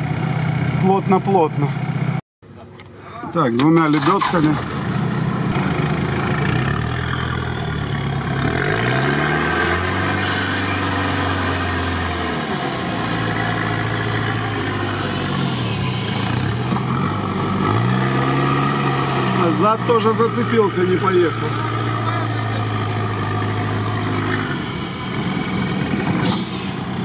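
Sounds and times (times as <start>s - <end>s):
vehicle engine revving: 3.9s - 27.0s.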